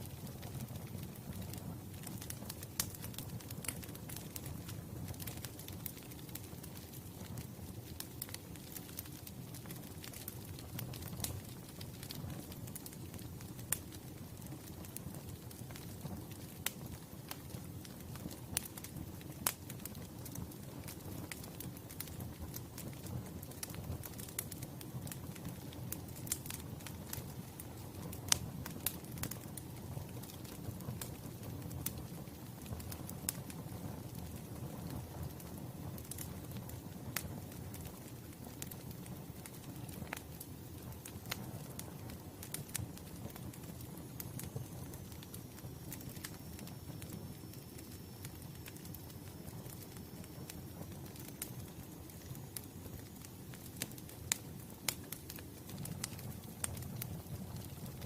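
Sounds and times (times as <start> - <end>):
low rumble of burning: 0.0 - 58.0
sharp pops of fire: 0.0 - 58.0
wood fire crackling: 0.0 - 58.0.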